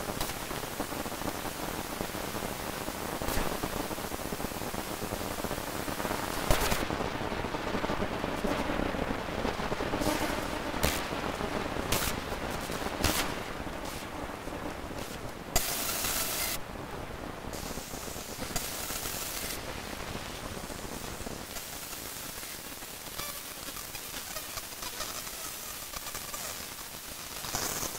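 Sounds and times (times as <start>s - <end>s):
hiss: 0.0s - 16.9s, 17.5s - 27.9s
harsh crackling noise: 0.0s - 27.9s.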